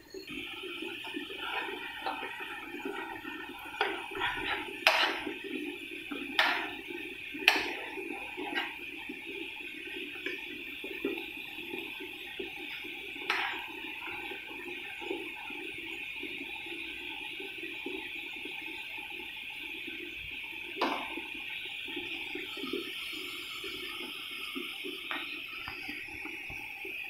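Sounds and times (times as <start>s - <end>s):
syrup boiling and bubbling: 0.0s - 27.0s.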